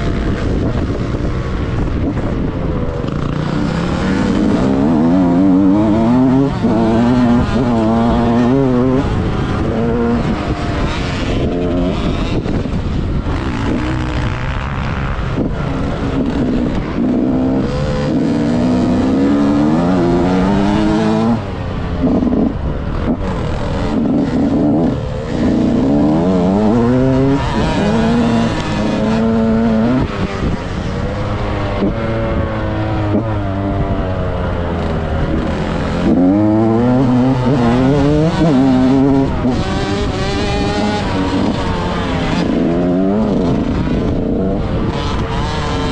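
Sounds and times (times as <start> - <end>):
two-stroke motorbike engine revving: 0.0 - 45.9.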